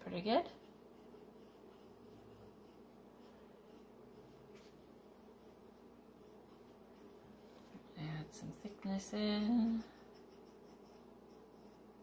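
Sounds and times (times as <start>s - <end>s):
pencil scratching on paper: 0.0s - 7.2s, 8.7s - 12.0s
low steady hum: 0.0s - 12.0s.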